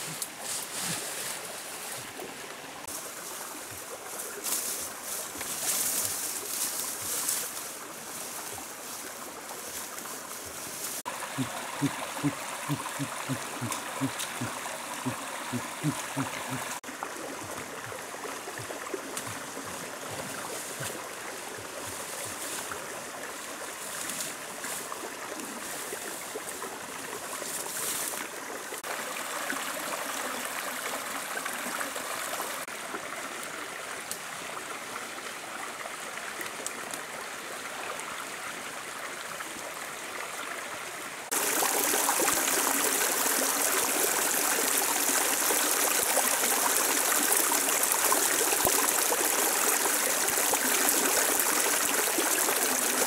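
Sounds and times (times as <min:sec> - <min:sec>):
stream trickling over stones: 0:00.0 - 0:53.0.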